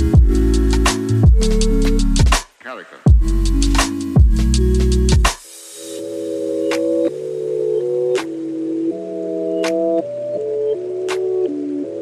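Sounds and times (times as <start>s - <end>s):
electronic music with heavy bass: 0.0s - 2.4s, 3.0s - 12.0s.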